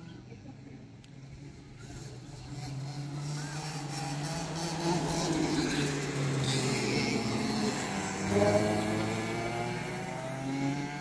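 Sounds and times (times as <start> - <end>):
go-kart engines droning: 0.0 - 11.0.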